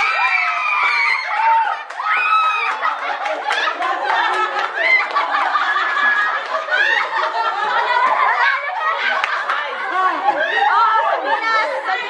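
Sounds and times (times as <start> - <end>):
adults laughing and shouting: 0.0 - 12.0.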